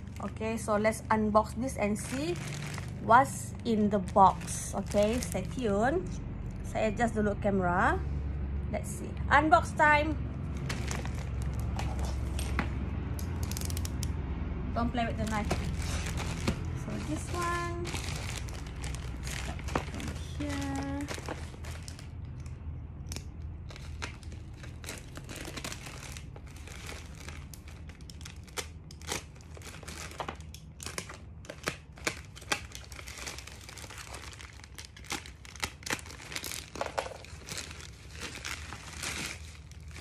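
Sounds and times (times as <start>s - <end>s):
plastic bag crinkling and tearing: 0.0s - 0.7s, 1.5s - 6.1s, 10.5s - 12.6s, 13.3s - 14.0s, 15.1s - 40.0s.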